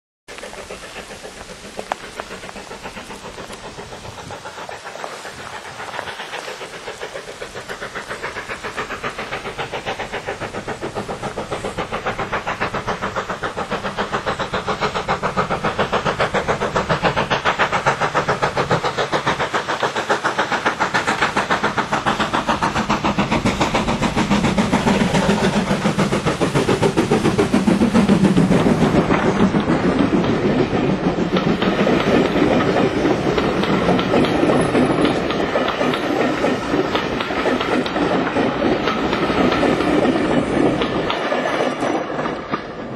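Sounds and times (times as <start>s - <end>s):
steam locomotive exhaust beats: 0.3s - 42.9s.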